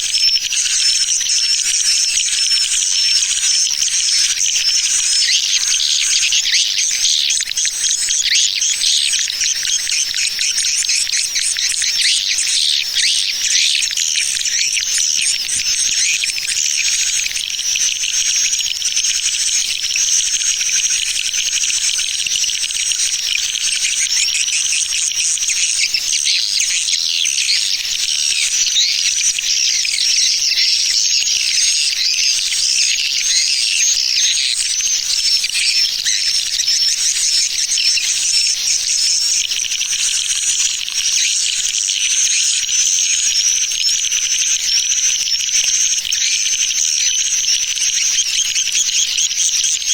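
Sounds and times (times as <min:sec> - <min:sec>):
swiftlets chirping and twittering: 0:00.0 - 0:49.9.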